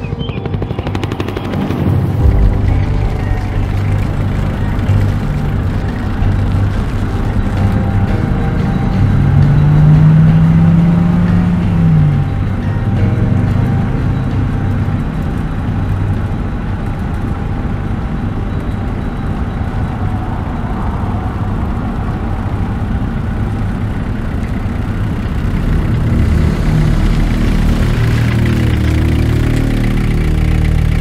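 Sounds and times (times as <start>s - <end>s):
old truck engine running: 0.0s - 31.0s.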